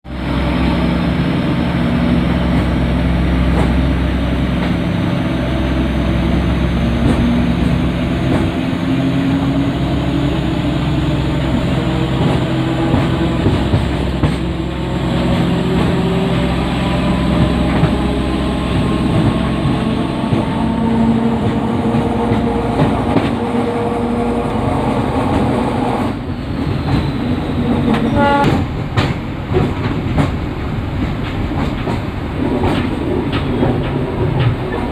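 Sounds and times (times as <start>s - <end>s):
train wheels rumbling on rails: 0.0s - 34.9s
rail joint clicks: 0.2s - 34.9s.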